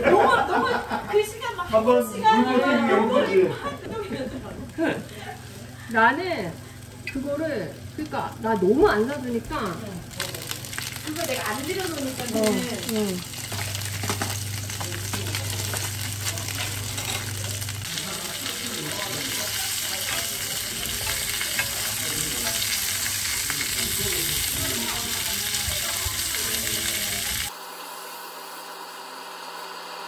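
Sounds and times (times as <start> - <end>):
vegetables sizzling in a grill pan: 0.0 - 27.9.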